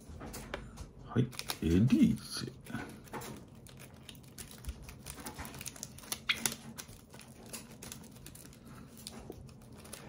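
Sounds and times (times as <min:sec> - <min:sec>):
plastic wrapper crinkling: 0:01.2 - 0:10.0.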